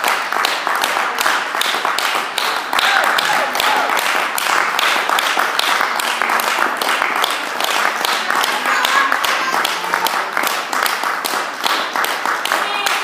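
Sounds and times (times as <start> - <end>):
spectators clapping: 0.0 - 13.0.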